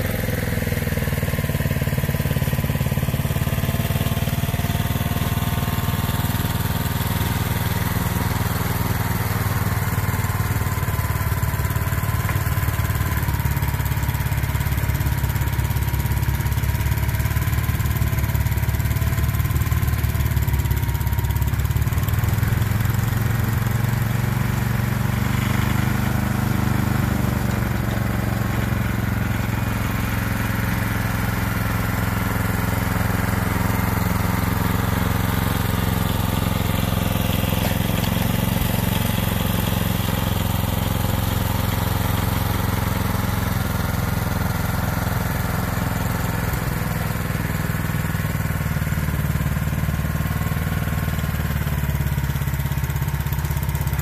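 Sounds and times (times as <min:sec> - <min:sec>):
snowblower engine running: 0:00.0 - 0:54.0.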